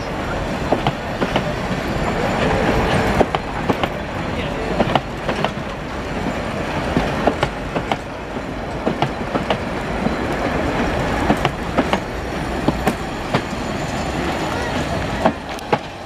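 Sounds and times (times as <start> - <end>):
train wheels rumbling on track: 0.0 - 16.0
wheels clicking over rail joints: 0.0 - 16.0.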